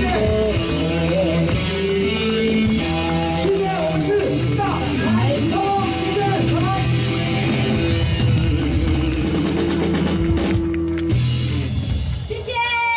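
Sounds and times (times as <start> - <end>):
drum kit: 0.0 - 12.6
electric guitar: 0.0 - 12.9.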